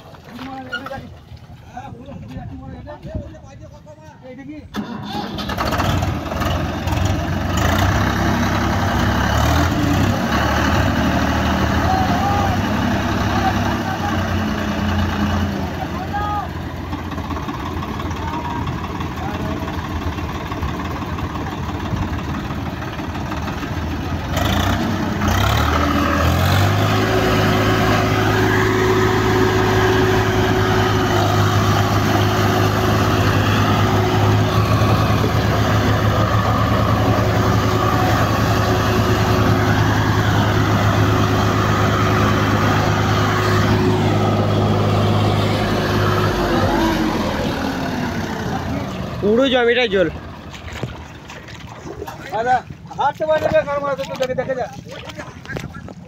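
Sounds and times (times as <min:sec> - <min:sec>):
tractor diesel engine running: 0:01.8 - 0:56.0.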